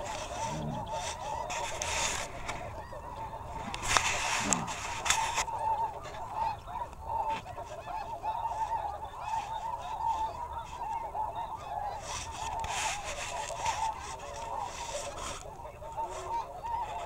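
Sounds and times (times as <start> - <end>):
geese honking chorus: 0.0 - 17.0.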